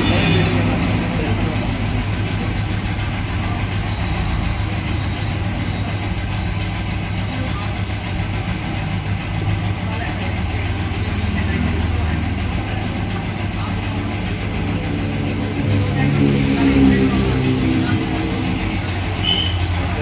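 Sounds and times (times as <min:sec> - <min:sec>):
workshop machinery hum: 0:00.0 - 0:20.0.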